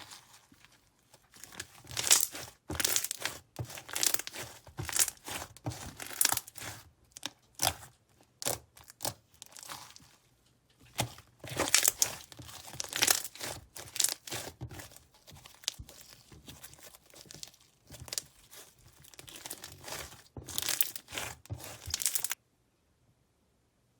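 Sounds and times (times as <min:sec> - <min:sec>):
bead-filled slime crackling: 0:00.0 - 0:10.2, 0:10.8 - 0:22.4.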